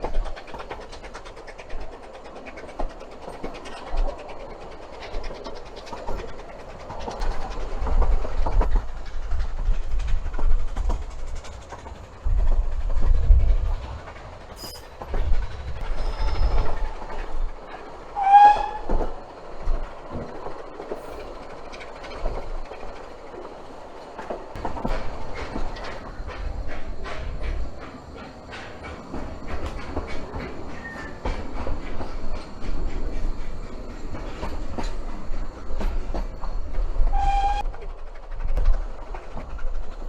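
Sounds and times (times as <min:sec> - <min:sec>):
steam train rumbling: 0:00.0 - 0:40.0
wheels clacking on rail joints: 0:00.0 - 0:40.0.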